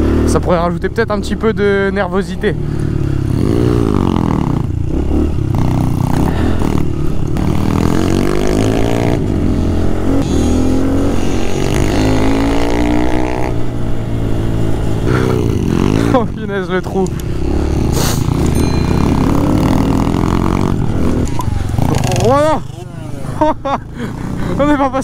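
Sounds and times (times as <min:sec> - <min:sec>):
dirt bike engine revving: 0:00.0 - 0:02.0, 0:02.6 - 0:25.0.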